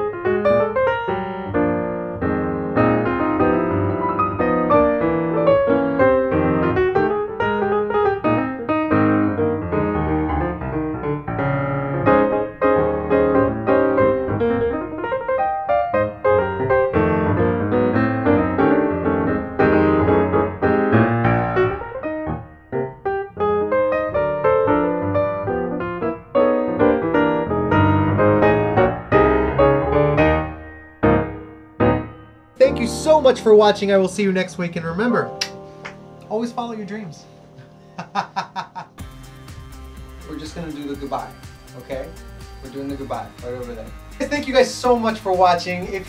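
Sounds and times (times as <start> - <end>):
piano music: 0.0 - 46.0.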